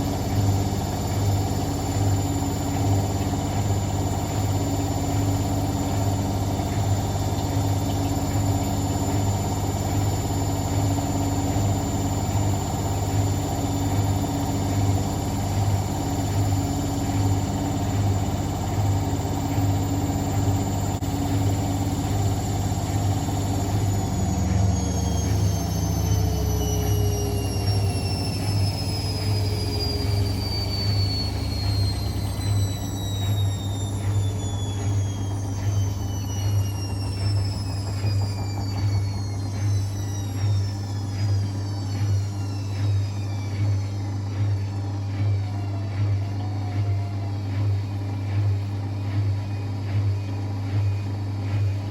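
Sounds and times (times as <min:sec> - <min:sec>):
washing machine spinning: 0:00.0 - 0:51.9.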